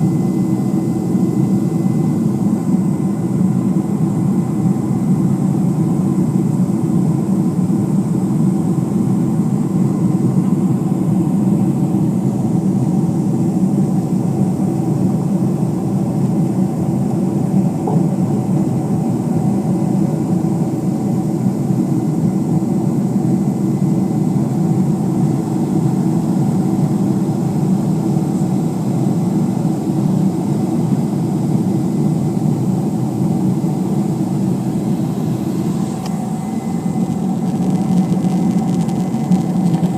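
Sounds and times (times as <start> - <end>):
faint steady whines: 0.0 - 39.9
jet engine and airflow drone: 0.0 - 39.9.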